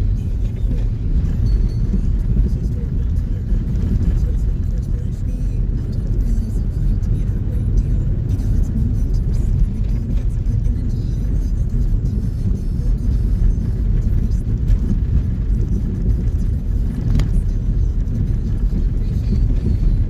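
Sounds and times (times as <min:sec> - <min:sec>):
vehicle rumble on snowy road: 0:00.0 - 0:20.0.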